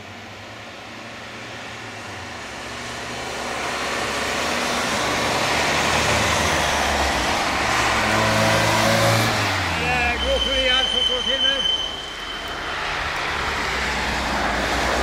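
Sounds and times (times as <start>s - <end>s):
car engine: 0.0s - 15.0s
tyres on asphalt: 0.0s - 15.0s.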